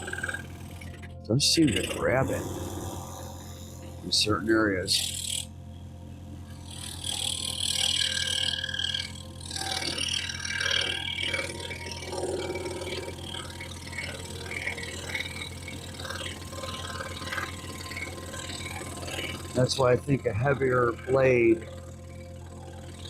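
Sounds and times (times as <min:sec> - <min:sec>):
scroll saw cutting wood: 0:00.0 - 0:05.5, 0:06.5 - 0:23.0.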